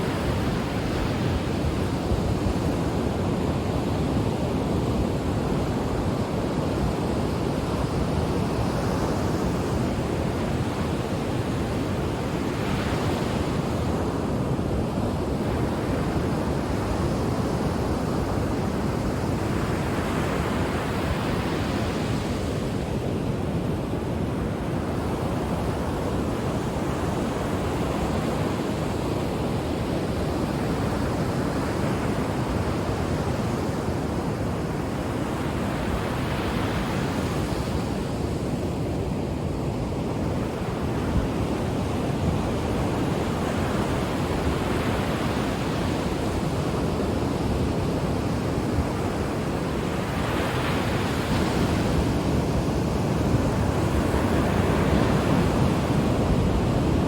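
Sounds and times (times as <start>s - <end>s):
ocean waves breaking on shore: 0.0s - 57.0s
wind on microphone: 0.0s - 57.0s.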